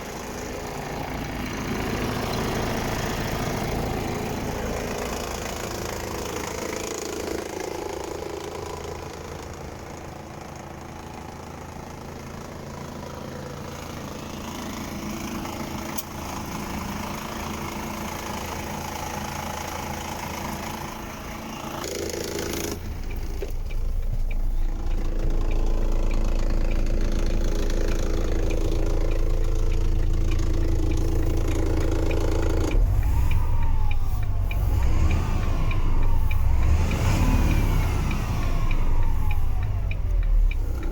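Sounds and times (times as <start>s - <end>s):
truck diesel engine idling: 0.0s - 40.9s.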